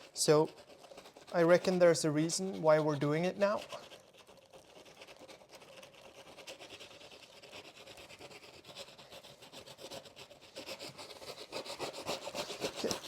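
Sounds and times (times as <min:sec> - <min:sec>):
sandpaper scratching on canvas: 0:00.0 - 0:13.0.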